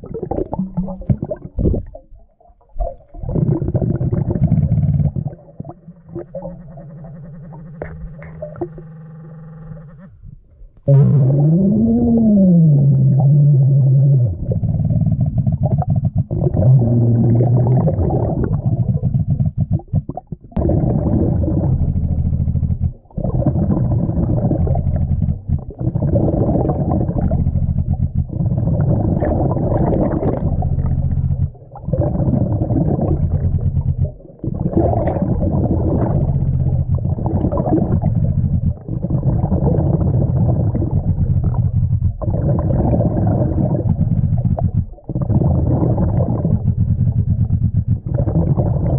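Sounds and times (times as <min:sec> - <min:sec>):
underwater rumbling and gurgling: 0:00.0 - 0:48.9.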